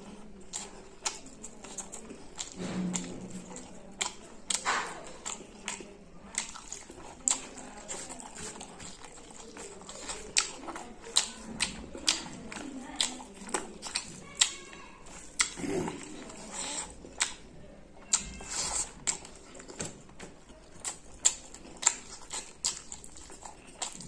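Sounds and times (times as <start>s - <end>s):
wet chewing and lip-smacking: 0.0s - 24.0s.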